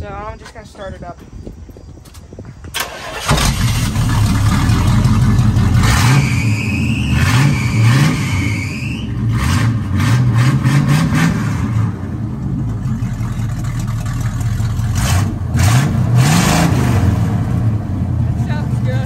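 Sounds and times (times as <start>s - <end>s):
pickup engine revving and idling: 3.4s - 19.0s.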